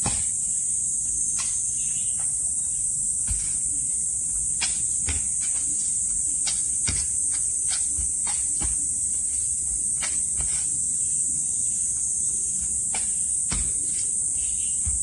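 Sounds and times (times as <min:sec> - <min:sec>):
insects droning: 0:00.0 - 0:15.0
stomps and scuffs on stone: 0:00.0 - 0:15.0.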